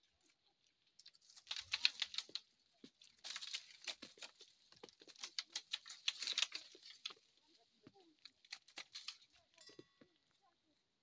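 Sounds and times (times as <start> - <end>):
rustling and crackling of fruit stems: 0.0 - 9.7.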